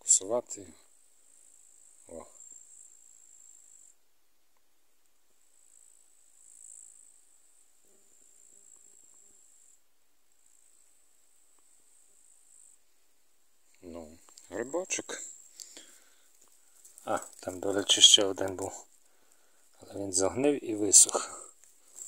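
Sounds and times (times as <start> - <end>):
insects trilling: 0.0 - 4.0, 5.2 - 22.0.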